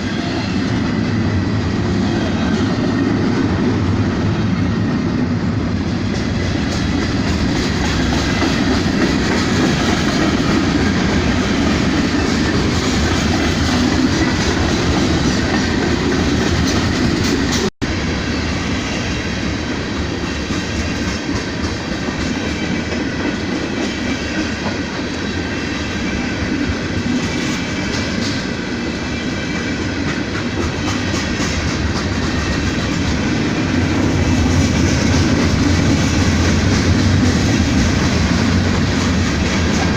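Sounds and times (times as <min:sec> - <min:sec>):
freight train cars rolling: 0:00.0 - 0:39.9.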